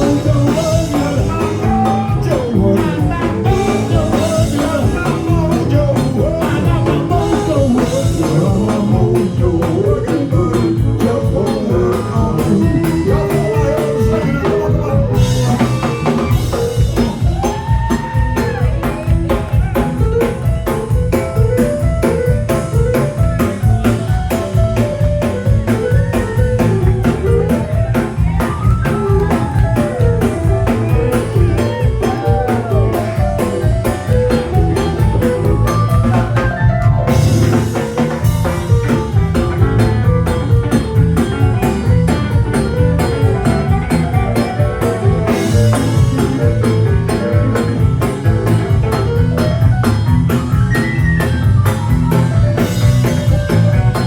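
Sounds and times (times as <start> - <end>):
bass guitar: 0.0 - 54.0
blues band playing: 0.0 - 54.0
drum kit: 0.0 - 54.0
lead guitar with bent notes: 0.0 - 54.0.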